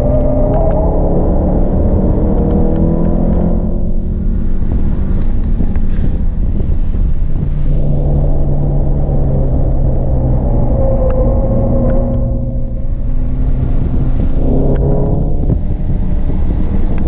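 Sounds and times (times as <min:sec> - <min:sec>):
car engine running hard: 0:00.0 - 0:17.0
road and tyre rumble: 0:00.0 - 0:17.0.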